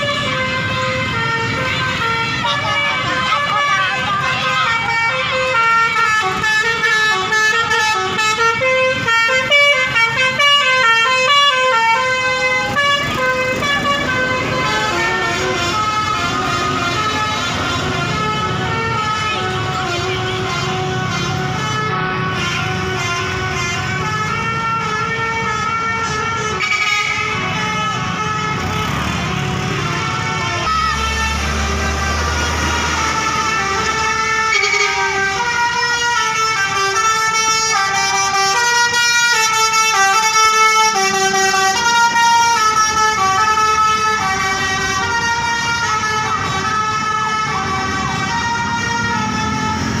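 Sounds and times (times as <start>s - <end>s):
musical air horn melody: 0.0s - 42.4s.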